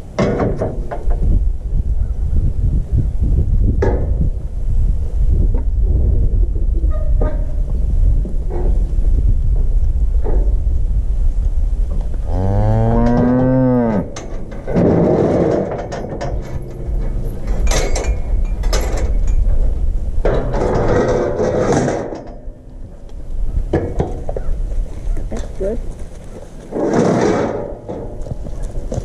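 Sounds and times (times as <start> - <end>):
low rumble: 0.9 - 26.2.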